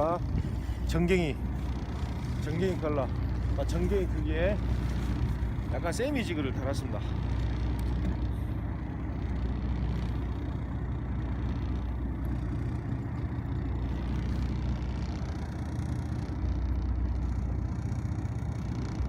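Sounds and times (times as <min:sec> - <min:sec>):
boat engine running steadily: 0:00.0 - 0:19.0.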